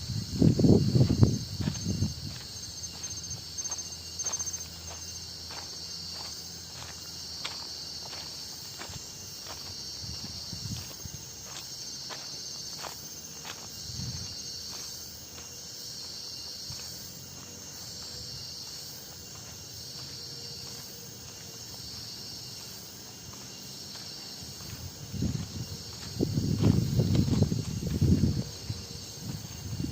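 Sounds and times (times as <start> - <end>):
faint footsteps on trail: 0.0 - 29.9
insects buzzing: 0.0 - 29.9.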